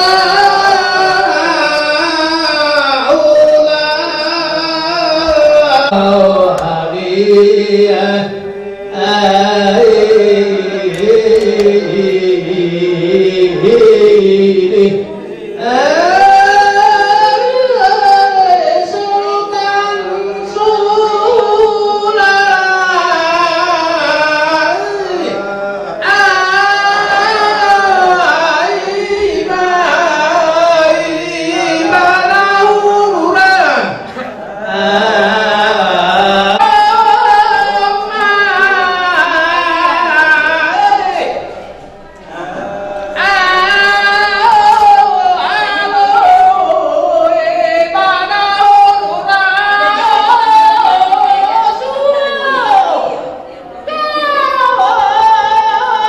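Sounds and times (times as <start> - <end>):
man chanting into a microphone: 0.0 - 56.0.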